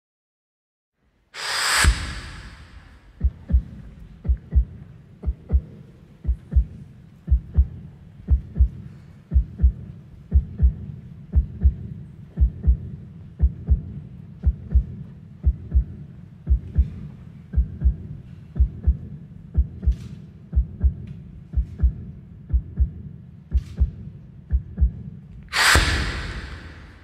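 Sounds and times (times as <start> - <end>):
heartbeat thumps: 1.8 - 27.0.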